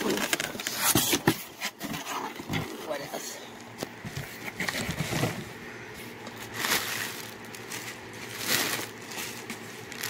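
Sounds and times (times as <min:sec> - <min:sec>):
plastic packaging rustling: 0:00.0 - 0:03.2, 0:04.0 - 0:10.0.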